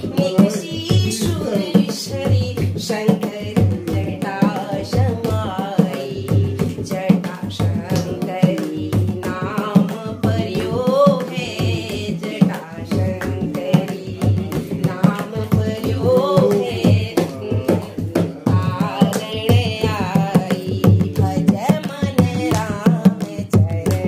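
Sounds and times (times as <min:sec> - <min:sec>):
hand drum beating: 0:00.0 - 0:24.0
women singing devotional song: 0:00.0 - 0:24.0.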